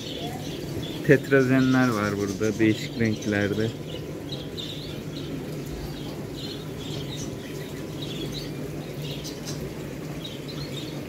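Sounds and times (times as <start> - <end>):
cage birds chirping: 0.0 - 11.0
steady low hum: 0.0 - 11.0.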